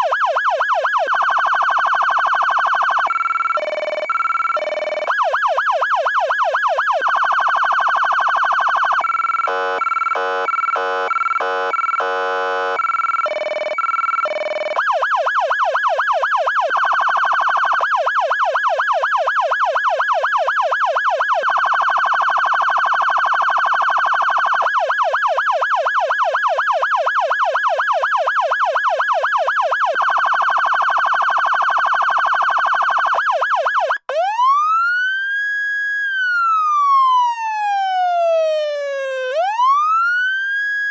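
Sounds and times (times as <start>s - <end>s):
electronic siren cycling tones: 0.0s - 35.2s, 36.2s - 40.9s.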